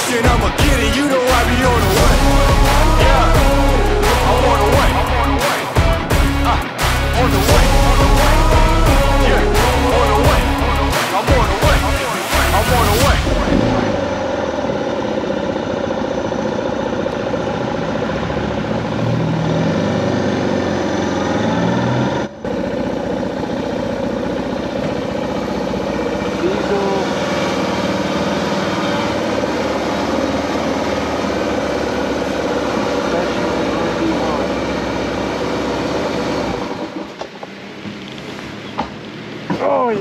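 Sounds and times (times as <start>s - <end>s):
motorcycle engine running: 0.0s - 19.1s, 22.3s - 39.9s.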